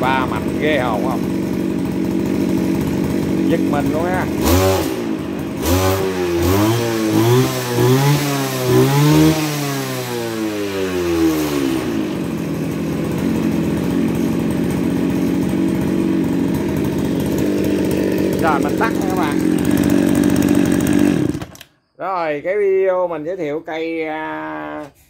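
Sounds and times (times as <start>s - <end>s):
two-stroke engine revving and idling: 0.0s - 21.7s.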